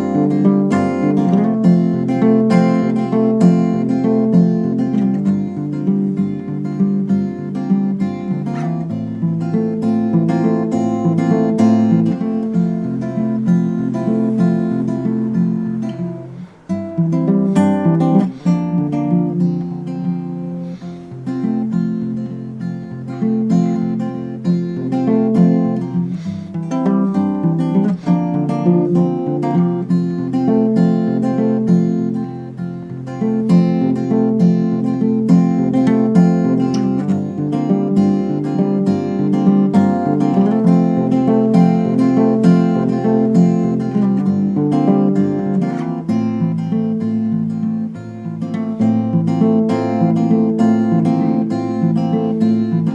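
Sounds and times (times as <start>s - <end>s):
acoustic guitar finger-picked: 0.0s - 52.9s.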